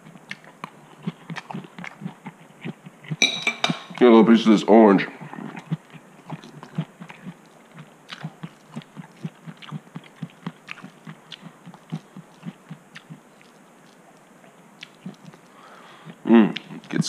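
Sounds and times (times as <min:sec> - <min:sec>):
chewing thumps: 0:00.0 - 0:04.1, 0:05.1 - 0:17.0.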